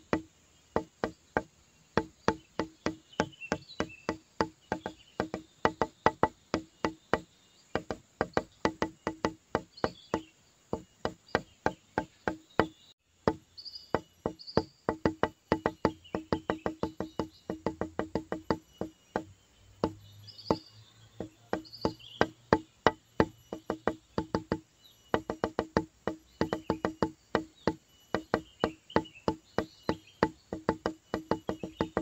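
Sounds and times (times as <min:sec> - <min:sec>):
wood-block knocks music: 0:00.0 - 0:32.0.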